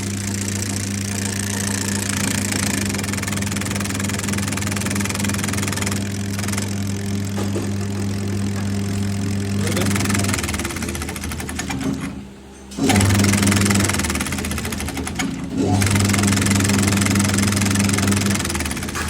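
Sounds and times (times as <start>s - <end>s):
machinery humming with knock: 0.0s - 19.0s.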